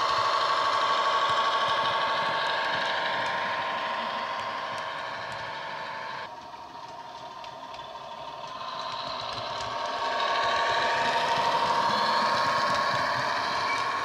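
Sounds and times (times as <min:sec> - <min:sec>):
model train diesel engine sound: 0:00.0 - 0:14.0
model train running noise: 0:00.0 - 0:14.0.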